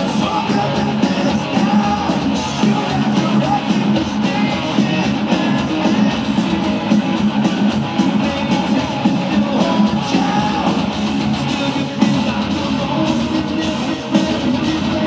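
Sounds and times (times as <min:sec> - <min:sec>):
heavy metal band playing live: 0:00.0 - 0:15.0.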